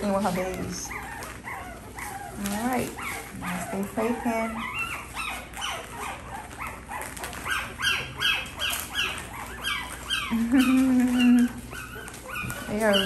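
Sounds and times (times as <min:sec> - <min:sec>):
puppies crying: 0:00.0 - 0:13.0.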